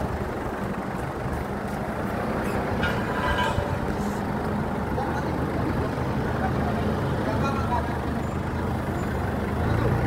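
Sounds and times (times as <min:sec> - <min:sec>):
forklift engine running: 0:00.0 - 0:10.0.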